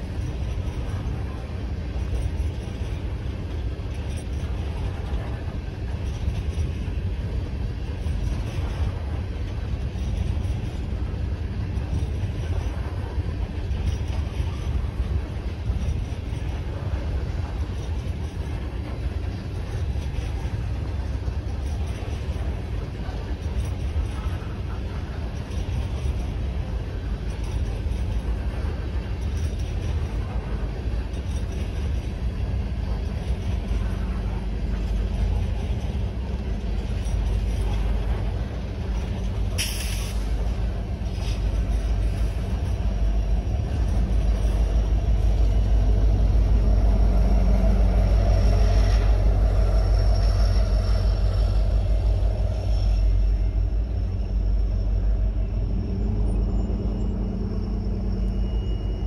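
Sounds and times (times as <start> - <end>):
steel train wheels rumbling on rails: 0.0 - 59.0.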